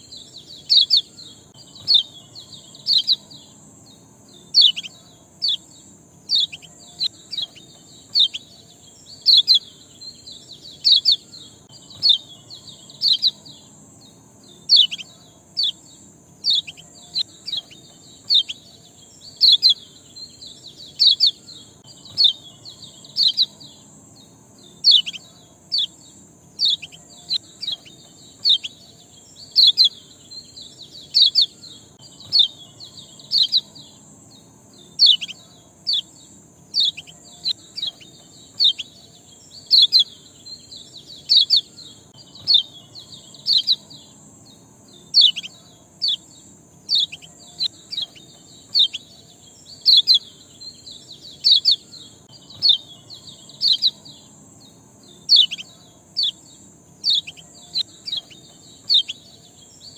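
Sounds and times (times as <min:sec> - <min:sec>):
bird chirping: 0:00.0 - 0:59.9
steady high hiss: 0:00.0 - 0:59.9.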